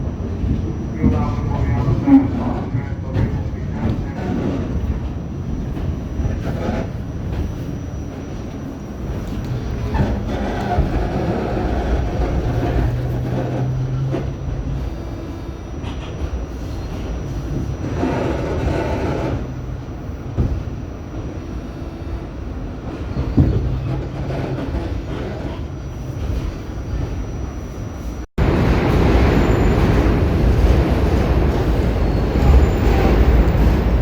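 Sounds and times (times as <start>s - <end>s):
subway wheels rumbling on track: 0.0s - 34.0s.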